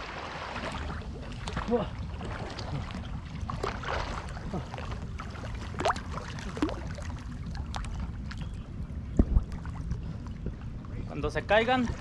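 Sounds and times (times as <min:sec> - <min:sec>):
low rumble: 0:00.0 - 0:12.0
river water lapping and splashing: 0:00.0 - 0:12.0.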